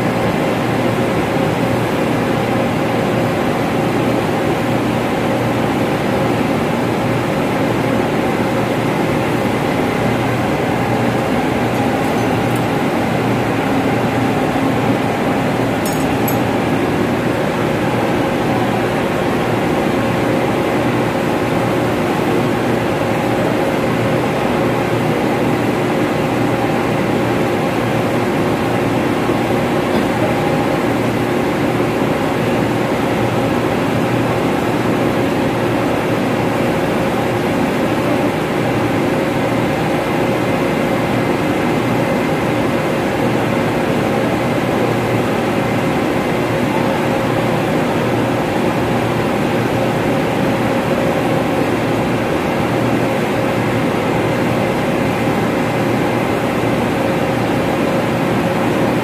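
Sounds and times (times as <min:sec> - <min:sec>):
ventilation fan drone: 0:00.0 - 0:59.0.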